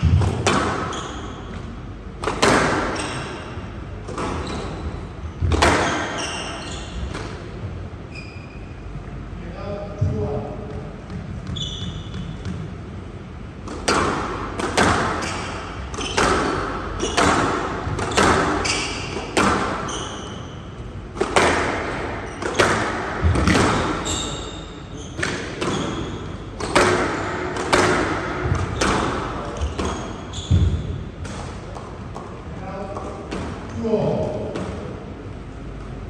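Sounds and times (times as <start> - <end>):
squash ball striking rackets and walls: 0.0 - 7.9, 10.0 - 35.4
court shoes squeaking: 0.0 - 9.2, 10.0 - 33.8.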